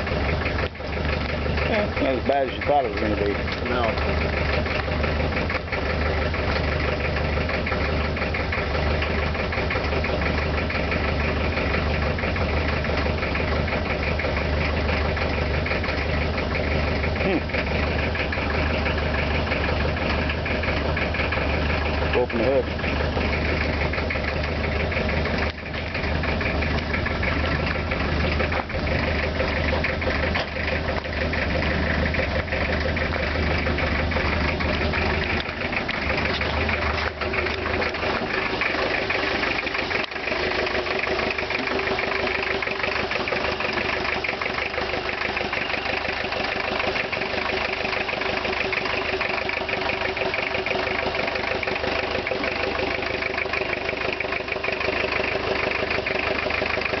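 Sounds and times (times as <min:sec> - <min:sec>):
heavy low rumble: 0:00.0 - 0:56.4
diesel engine idling: 0:00.0 - 0:57.0.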